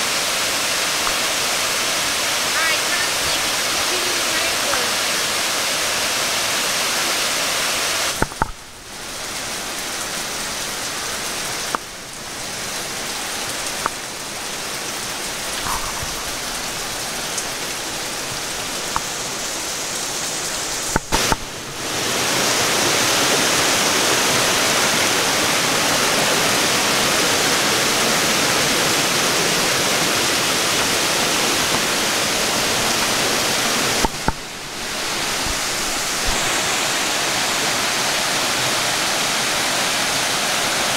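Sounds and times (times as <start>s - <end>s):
waterfall rushing water: 0.0s - 40.9s.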